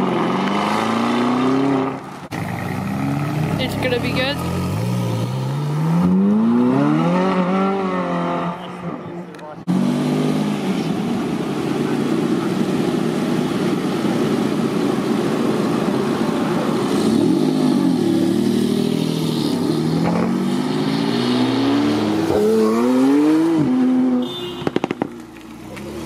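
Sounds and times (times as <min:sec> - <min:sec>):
car engine rumbling and revving: 0:00.0 - 0:26.0.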